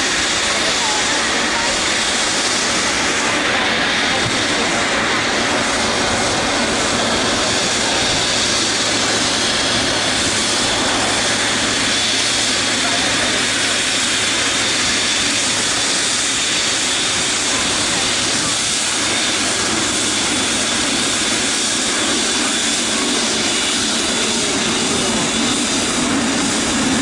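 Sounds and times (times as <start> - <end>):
jet engines at taxi thrust: 0.0 - 27.0.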